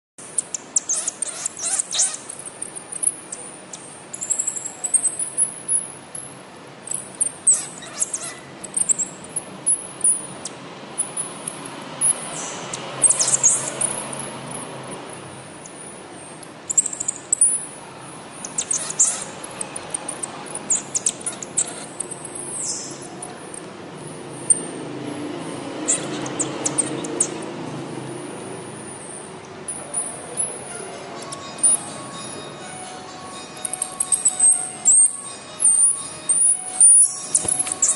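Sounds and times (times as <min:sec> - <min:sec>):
marmoset chirping and squeaking: 0:00.3 - 0:14.6, 0:15.6 - 0:24.7, 0:25.8 - 0:27.5, 0:28.7 - 0:32.7, 0:33.5 - 0:37.9.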